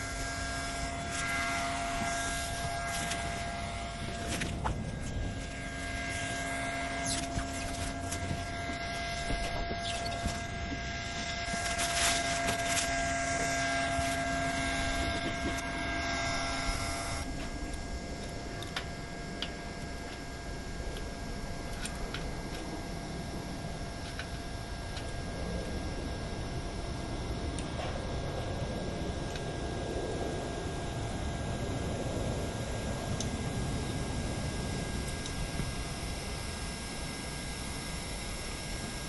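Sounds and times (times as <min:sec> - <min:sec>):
noisy background: 0:00.0 - 0:39.0
steady mechanical hum: 0:00.0 - 0:39.0.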